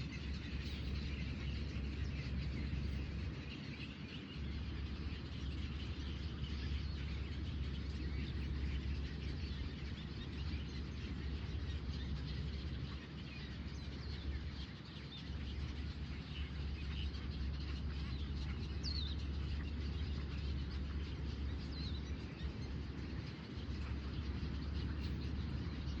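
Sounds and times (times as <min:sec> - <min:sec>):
birds chirping faintly: 0:00.0 - 0:26.0
steady low rumble: 0:00.0 - 0:26.0.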